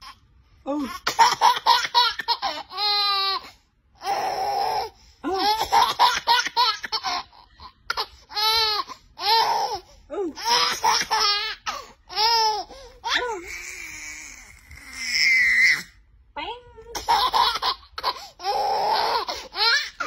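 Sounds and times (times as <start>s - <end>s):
baby laughing: 0.0s - 15.4s, 16.9s - 20.0s.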